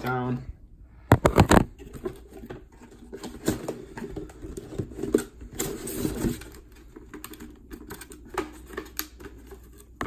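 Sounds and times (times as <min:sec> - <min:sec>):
cardboard and plastic rustling: 0:01.1 - 0:10.0.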